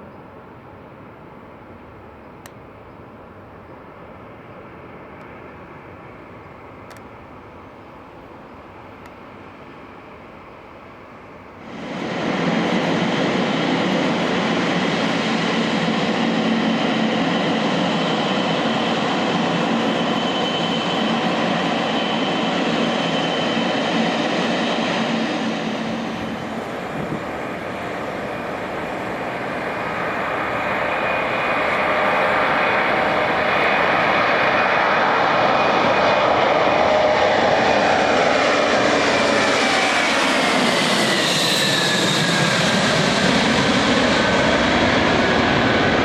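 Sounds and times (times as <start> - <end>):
jet engines rushing and whining: 9.0 - 46.0.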